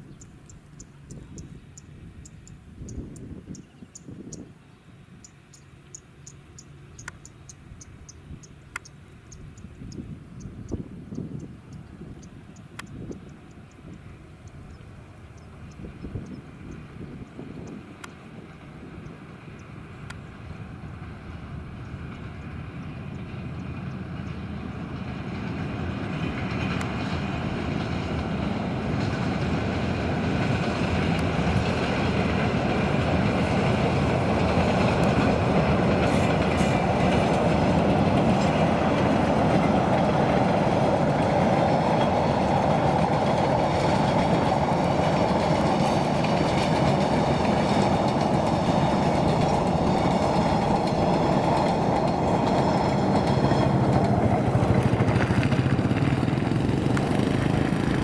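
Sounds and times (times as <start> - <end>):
passenger train passing: 0.0 - 58.0.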